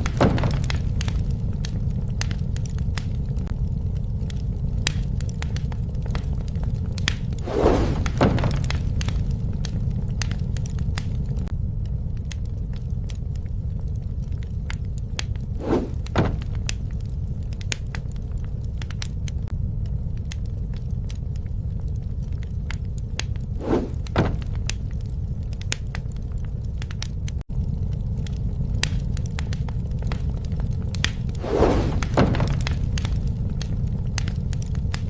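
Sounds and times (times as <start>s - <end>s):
campfire burning: 0.0s - 35.0s.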